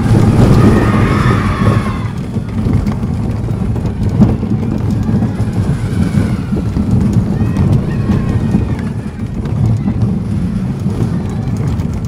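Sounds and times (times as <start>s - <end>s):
roller coaster train rumbling: 0.0s - 12.0s.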